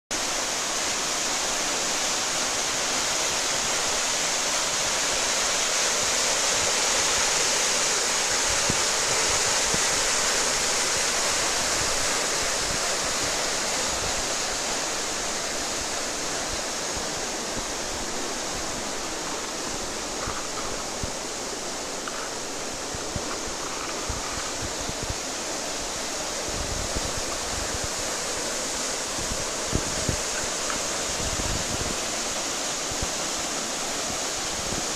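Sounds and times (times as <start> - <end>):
fast water rushing through canals: 0.1 - 34.9.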